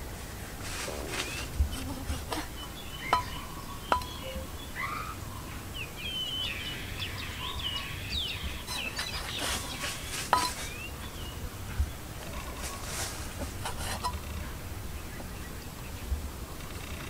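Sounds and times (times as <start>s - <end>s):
small birds chirping: 0.3s - 17.0s.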